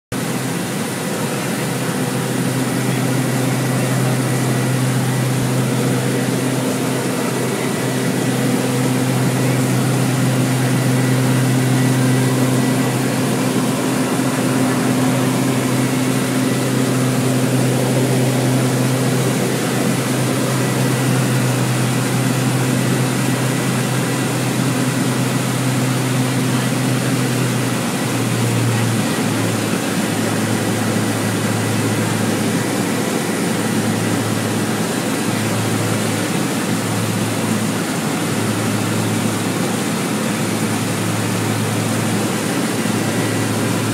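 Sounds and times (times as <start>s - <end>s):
small aircraft propeller hum: 0.1s - 43.9s
constant rushing noise: 0.2s - 43.9s.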